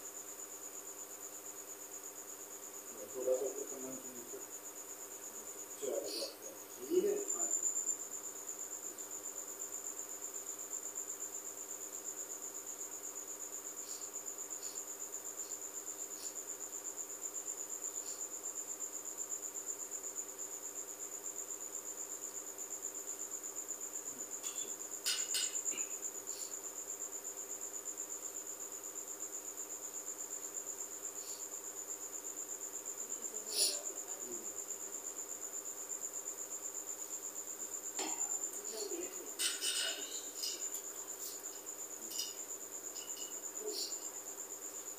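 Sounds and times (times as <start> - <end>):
cricket chirping trill: 0.0 - 44.9.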